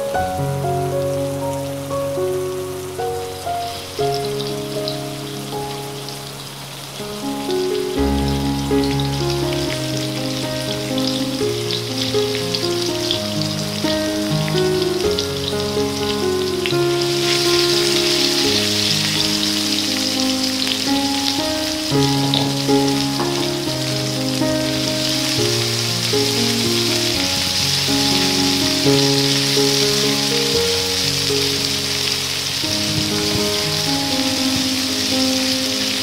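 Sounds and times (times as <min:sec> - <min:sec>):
instrumental background music: 0:00.0 - 0:36.0
spice paste sizzling in oil: 0:03.7 - 0:36.0.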